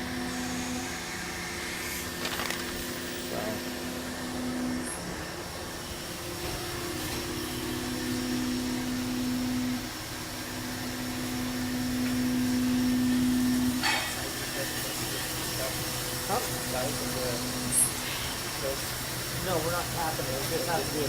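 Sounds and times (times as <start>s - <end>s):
milling machine spindle whine: 0.0s - 21.0s
whirring machine noise: 0.0s - 21.0s.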